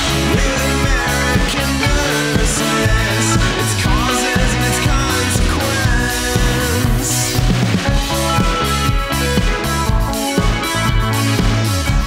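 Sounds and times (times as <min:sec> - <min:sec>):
bass guitar: 0:00.0 - 0:12.0
drums: 0:00.0 - 0:12.0
synthesizer keyboard: 0:00.0 - 0:12.0.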